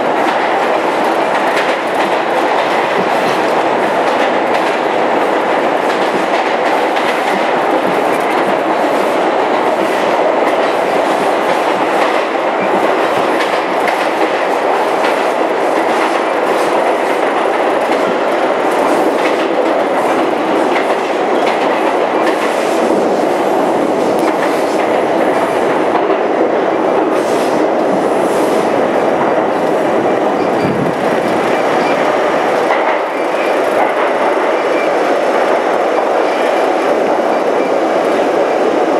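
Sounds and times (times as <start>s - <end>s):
subway car rumble: 0.0s - 38.9s.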